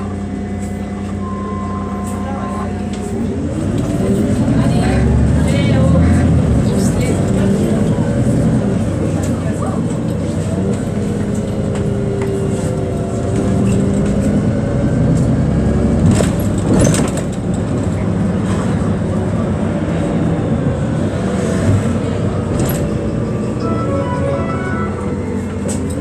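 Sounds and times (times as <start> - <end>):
bus engine and road drone: 0.0 - 26.0.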